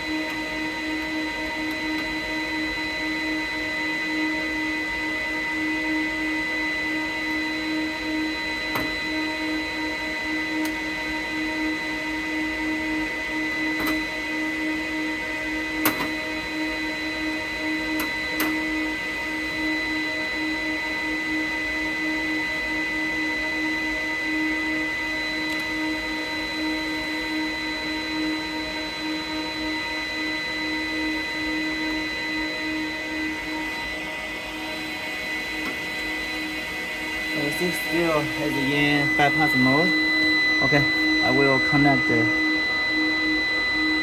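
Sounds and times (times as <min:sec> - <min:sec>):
constant electronic whine: 0:00.0 - 0:44.0
electronic equipment fan hum: 0:00.0 - 0:44.0.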